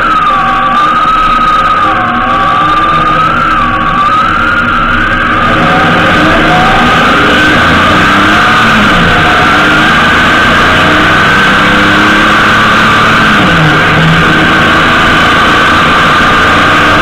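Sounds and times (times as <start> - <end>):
high whine: 0.0 - 17.0
motorcycle engine: 0.0 - 17.0
wind and road rush: 0.0 - 17.0.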